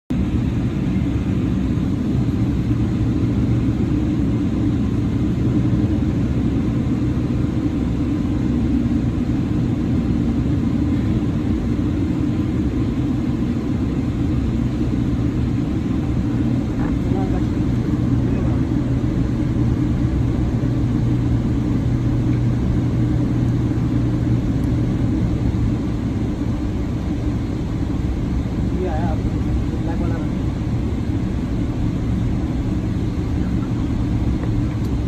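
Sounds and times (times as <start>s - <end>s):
air conditioning drone: 0.1s - 35.0s
airliner cabin rumble: 0.1s - 35.0s.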